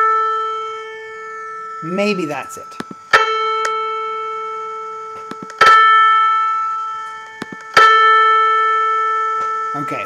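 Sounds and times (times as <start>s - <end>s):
synthesized piano note ringing: 0.0s - 10.0s.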